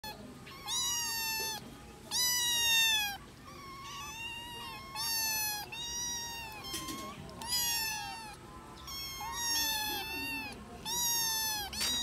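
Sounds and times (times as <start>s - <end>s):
kittens meowing: 0.0s - 12.0s.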